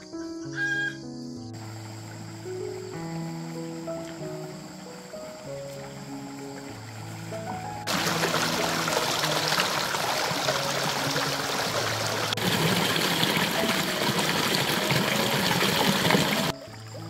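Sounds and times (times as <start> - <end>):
soft background music: 0.0 - 17.0
running water rushing: 1.6 - 17.0.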